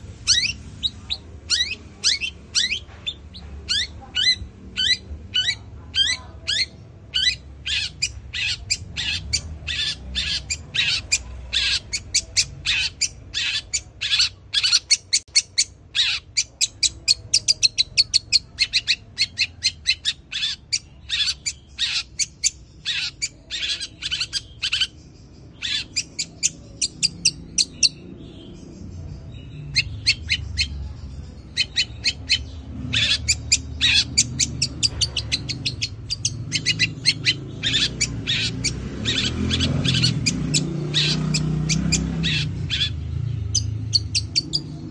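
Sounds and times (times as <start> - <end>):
bird harsh chirps: 0.0 - 44.9.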